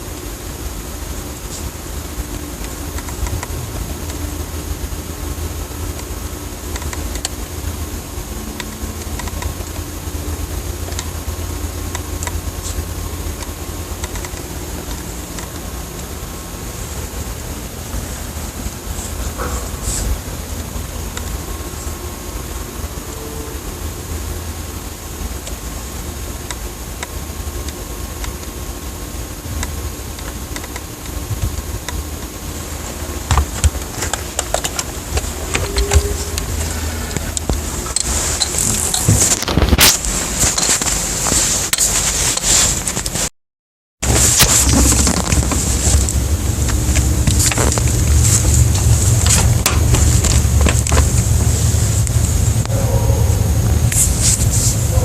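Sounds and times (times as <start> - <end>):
steady low rumble: 0.0 - 43.3, 44.0 - 55.0
thin steady hum: 0.0 - 43.3, 44.0 - 55.0.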